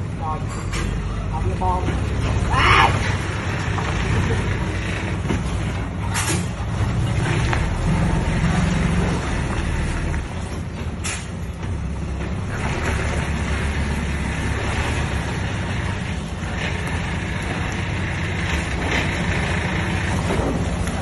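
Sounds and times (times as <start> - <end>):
truck diesel engine under load: 0.0 - 21.0.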